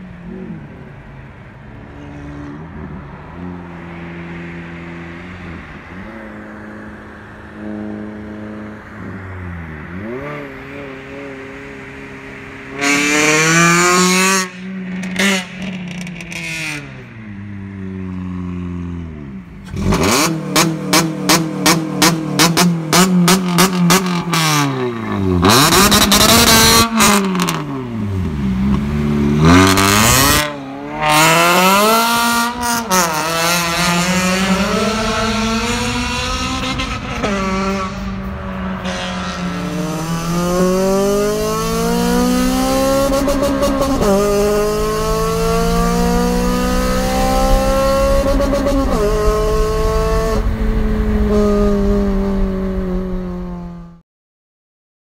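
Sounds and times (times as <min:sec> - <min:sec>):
car engine revving: 0:01.7 - 0:17.4, 0:19.5 - 0:54.0.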